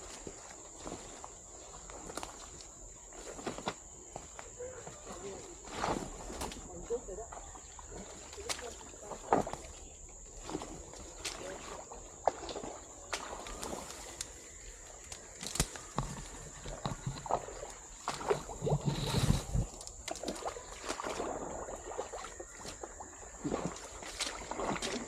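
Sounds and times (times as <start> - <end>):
footsteps squelching through mud: 0.0 - 25.0.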